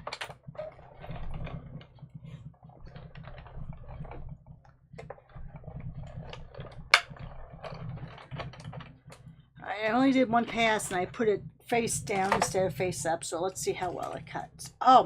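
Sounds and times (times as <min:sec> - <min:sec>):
small clicks and rattles: 0:00.0 - 0:14.7.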